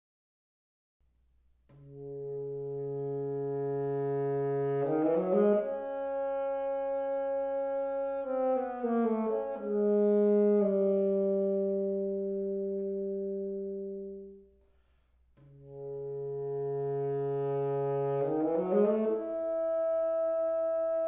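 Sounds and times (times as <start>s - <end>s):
saxophone slow melody: 1.7s - 14.6s, 15.4s - 21.0s.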